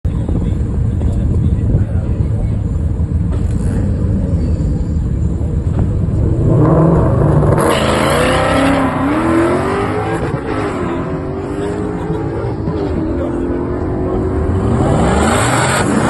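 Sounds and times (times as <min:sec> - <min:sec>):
racing car engines accelerating: 0:02.2 - 0:16.0.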